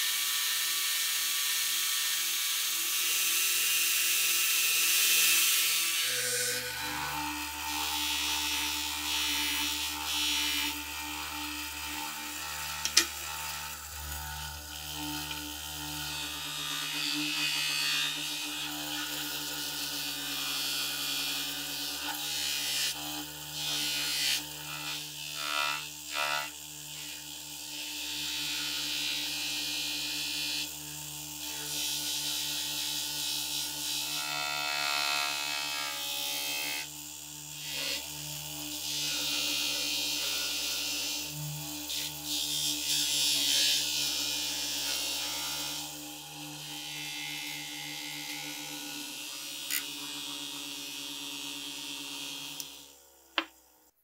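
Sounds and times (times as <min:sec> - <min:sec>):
bench grinder motor running: 0:00.0 - 0:53.7.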